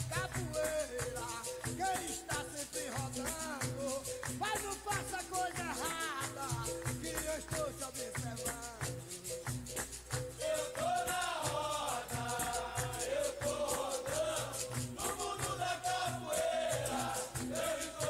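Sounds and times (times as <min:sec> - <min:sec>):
berimbau: 0:00.0 - 0:18.0
shaker rattling: 0:00.0 - 0:18.0.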